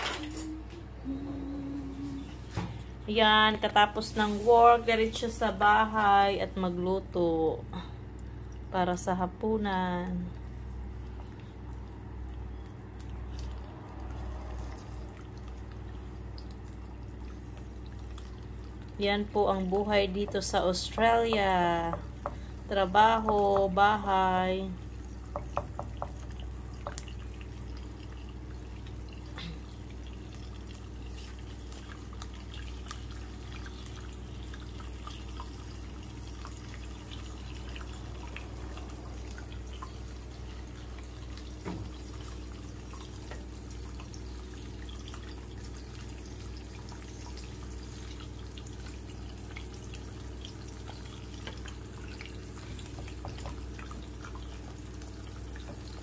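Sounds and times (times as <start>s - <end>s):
low steady hum: 0.0s - 56.0s
eggs sizzling in a frying pan: 2.2s - 56.0s.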